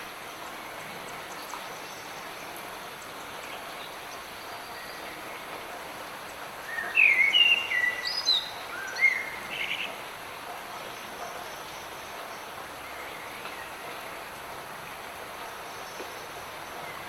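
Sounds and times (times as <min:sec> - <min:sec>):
light rain hissing: 0:00.0 - 0:17.0.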